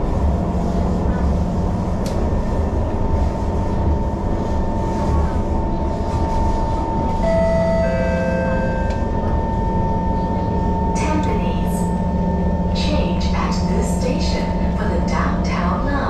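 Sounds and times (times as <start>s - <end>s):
high train whine: 0.0s - 16.0s
train rumbling on track: 0.0s - 16.0s.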